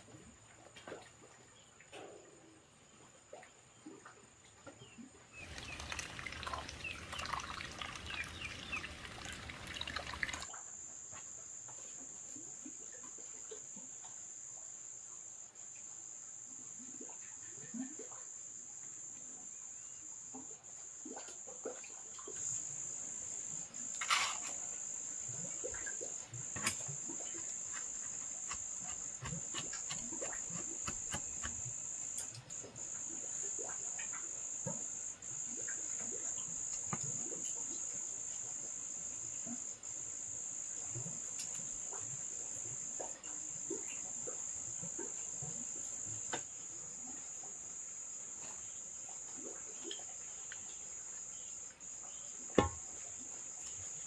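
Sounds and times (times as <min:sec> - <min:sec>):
insects trilling: 0:05.3 - 0:54.0.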